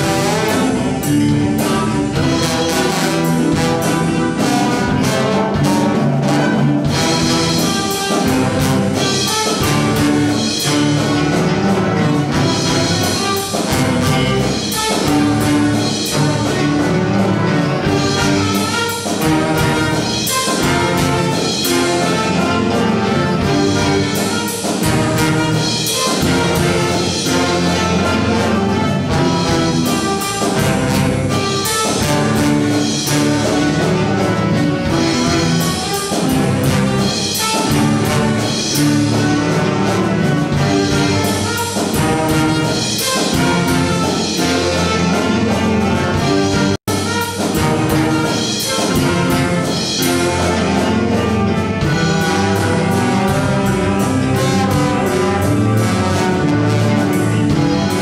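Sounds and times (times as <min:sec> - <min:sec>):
drum kit steady beat: 0:00.0 - 0:58.0
trombone: 0:00.0 - 0:58.0
trumpets: 0:00.0 - 0:58.0.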